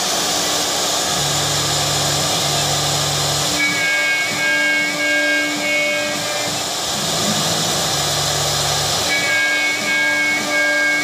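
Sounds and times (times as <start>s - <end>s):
high whine: 0.0s - 11.0s
router spindle cutting hiss: 0.0s - 11.0s.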